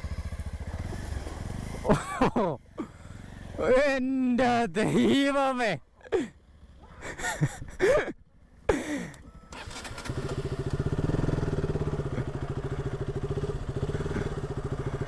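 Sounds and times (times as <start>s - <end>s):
motorcycle engine idling: 0.0s - 3.7s, 6.0s - 15.0s.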